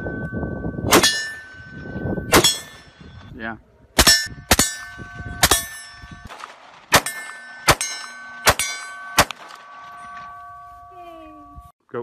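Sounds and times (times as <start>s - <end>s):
metallic ring of steel target: 0.0s - 3.3s, 4.0s - 6.3s, 6.9s - 11.2s.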